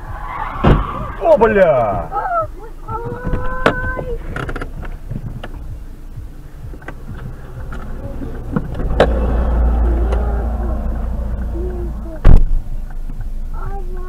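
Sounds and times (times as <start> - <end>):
car engine rumble from cabin: 0.0 - 14.0.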